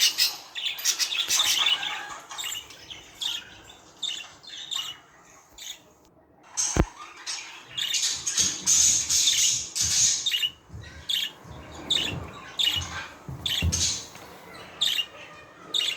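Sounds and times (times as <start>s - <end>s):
budgerigars chattering and squawking: 0.0s - 15.9s.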